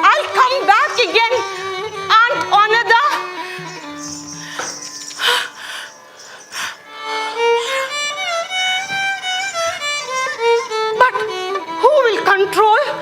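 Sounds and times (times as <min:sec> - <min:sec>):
violin melody: 0:00.0 - 0:13.0.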